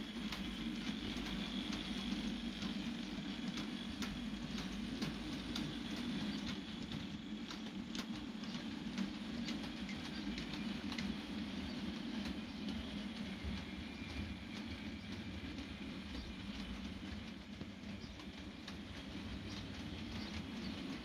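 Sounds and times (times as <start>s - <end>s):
wheels clicking over rail joints: 0.0s - 21.0s.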